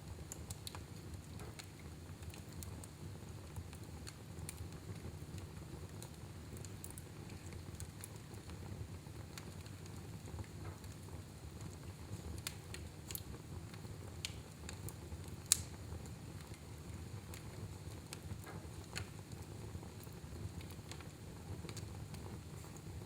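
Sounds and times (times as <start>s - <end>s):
fire crackling and popping: 0.0s - 23.0s
fire rumbling in fireplace: 0.0s - 23.0s.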